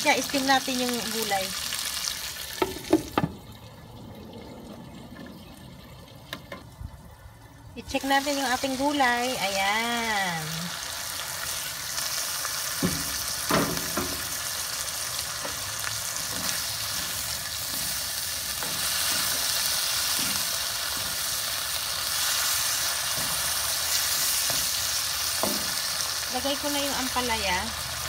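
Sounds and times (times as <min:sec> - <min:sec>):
meat and vegetables sizzling in wok: 0:00.0 - 0:03.3, 0:07.8 - 0:28.0.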